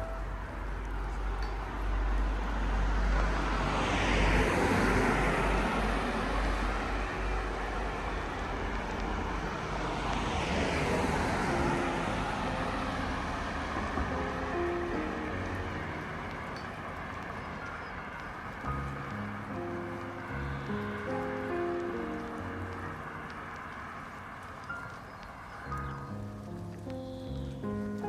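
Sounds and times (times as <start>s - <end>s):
car tyres hissing on wet road: 0.2s - 28.0s.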